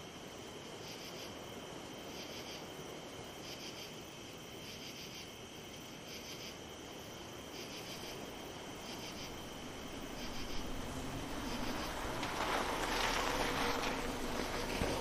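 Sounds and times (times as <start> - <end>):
cricket pulsed chirp: 0.0 - 15.0
insects high trill: 0.7 - 15.0.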